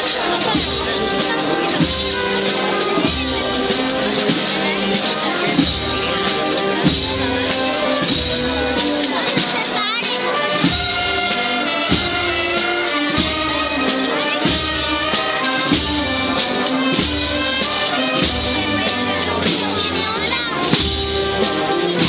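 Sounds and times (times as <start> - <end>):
slow steady drum beat: 0.0 - 22.0
trumpets and trombones: 0.0 - 22.0.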